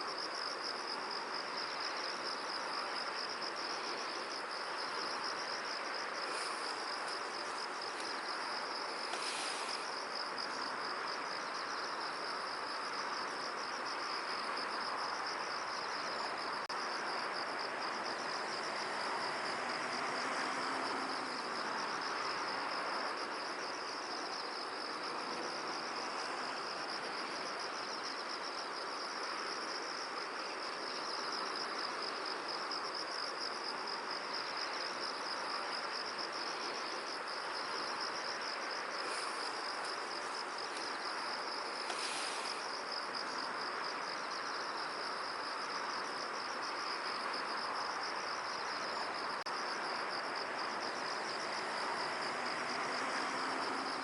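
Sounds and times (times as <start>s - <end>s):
insects trilling: 0.0s - 54.0s
wind through field: 0.0s - 54.0s.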